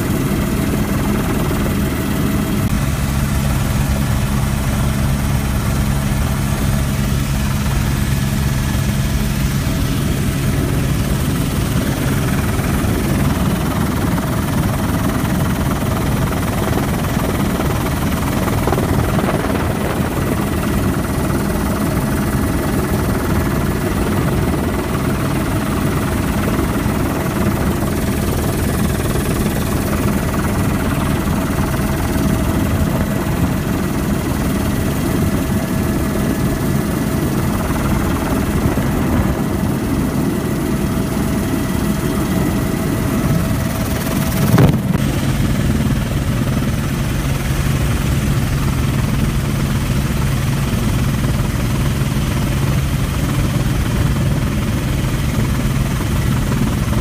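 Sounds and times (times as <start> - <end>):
helicopter rotor and engine rumble: 0.0 - 57.0.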